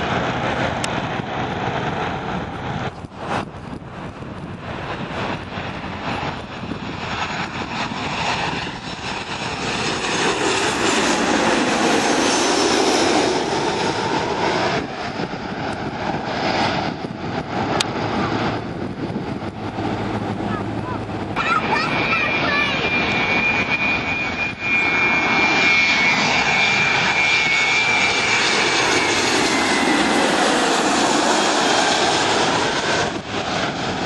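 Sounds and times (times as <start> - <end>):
jet airliner passing overhead: 0.0 - 34.0.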